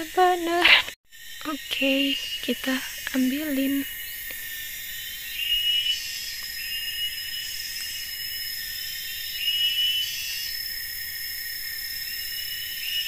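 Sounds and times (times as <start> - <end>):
insects buzzing and trilling: 0.0 - 13.0.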